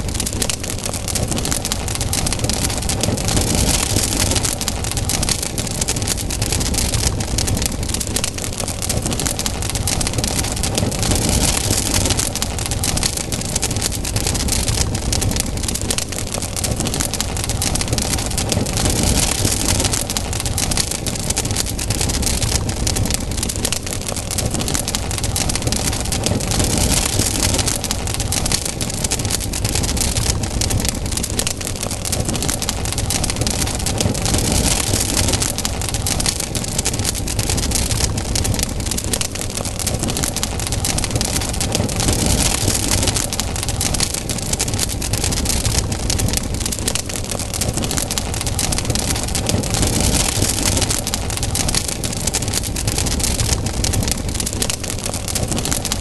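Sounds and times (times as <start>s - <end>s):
campfire crackling and popping: 0.0s - 56.0s
fire hissing: 0.0s - 56.0s
low fire rumble: 0.0s - 56.0s.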